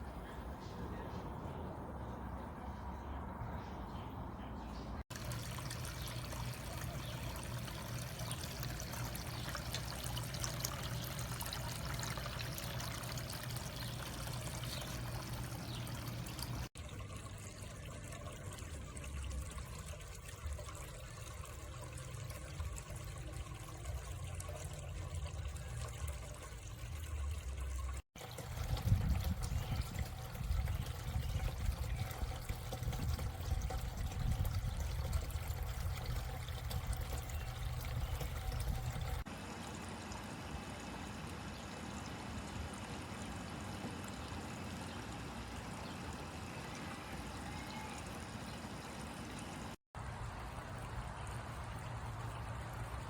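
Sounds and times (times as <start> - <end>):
fountain water splashing: 5.1 - 44.3, 45.2 - 53.0.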